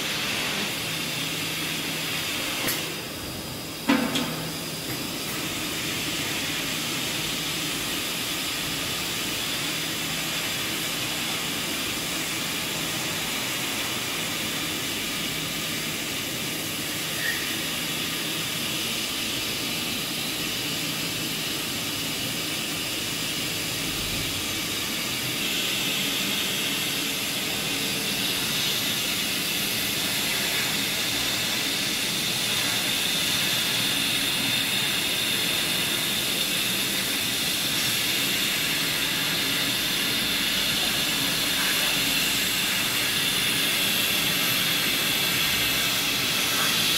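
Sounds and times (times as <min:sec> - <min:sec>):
hot-air welder hissing and humming: 0:00.0 - 0:46.9.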